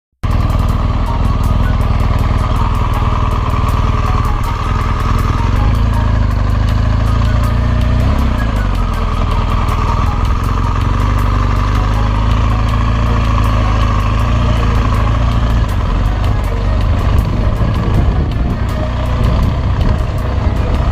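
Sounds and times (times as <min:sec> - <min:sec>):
motorcycle engine running: 0:00.2 - 0:20.9.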